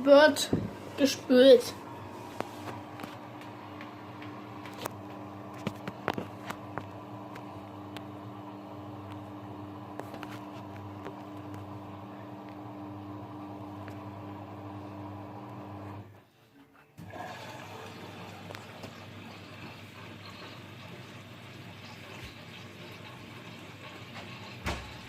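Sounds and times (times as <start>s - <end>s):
washing machine humming: 0.0s - 16.3s, 17.0s - 25.0s.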